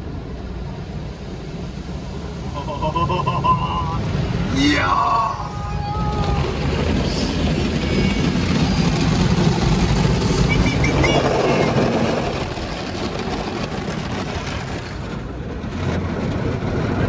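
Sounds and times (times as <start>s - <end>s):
car wash machinery rushing: 0.0s - 17.0s.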